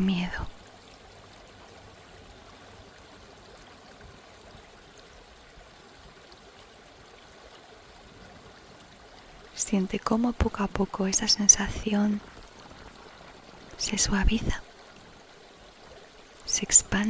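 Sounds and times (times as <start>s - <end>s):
faint running water: 0.0s - 17.0s.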